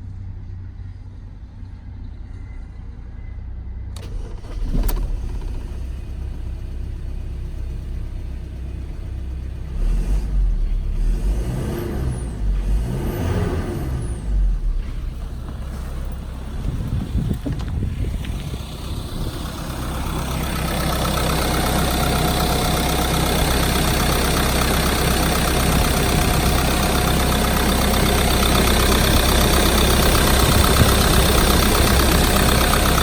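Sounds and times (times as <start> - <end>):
van engine idling: 3.8 - 33.0.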